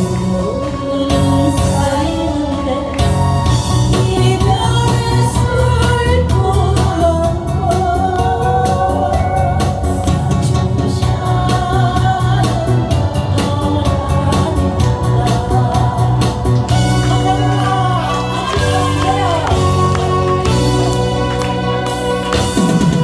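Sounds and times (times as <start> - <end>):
woman singing pop song: 0.0 - 23.0.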